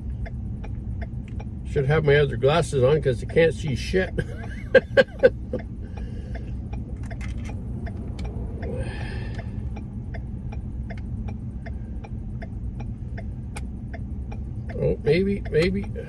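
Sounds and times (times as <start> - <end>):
light regular ticking: 0.0 - 2.4, 3.2 - 16.0
van engine idling: 0.0 - 16.0.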